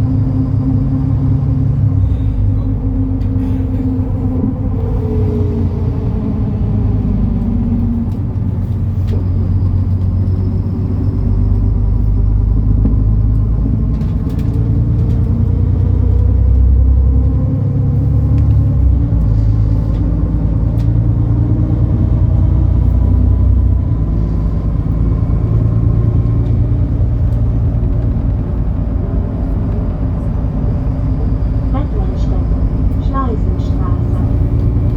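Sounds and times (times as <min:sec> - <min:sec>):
bus diesel engine running: 0:00.0 - 0:34.9.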